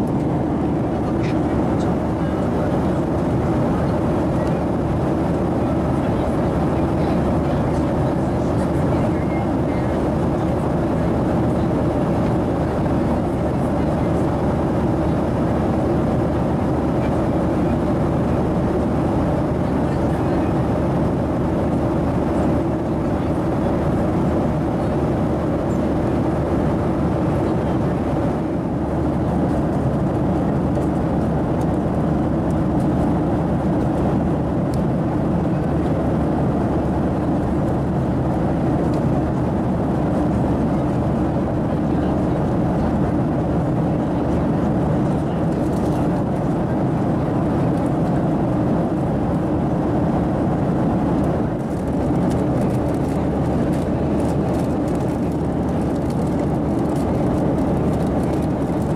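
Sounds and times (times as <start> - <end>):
airplane cabin engine drone: 0.0 - 58.9.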